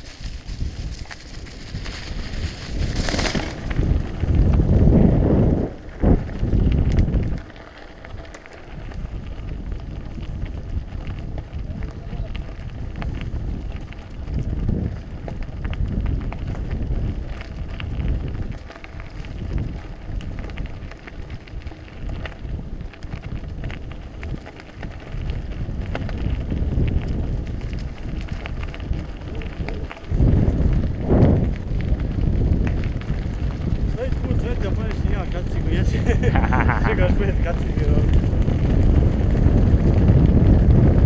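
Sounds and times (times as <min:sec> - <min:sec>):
bike clicks and rattles: 0:00.0 - 0:41.0
bike tyres rolling on gravel: 0:00.0 - 0:41.0
wind buffeting microphone: 0:00.0 - 0:41.0.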